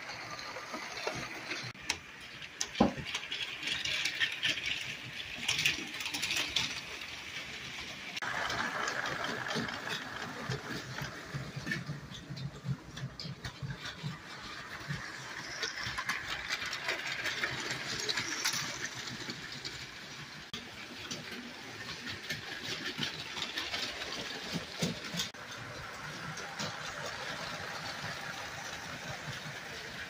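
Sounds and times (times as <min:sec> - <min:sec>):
toy train rattling whir: 0:00.0 - 0:30.0
wheels clicking over track joints: 0:00.0 - 0:30.0.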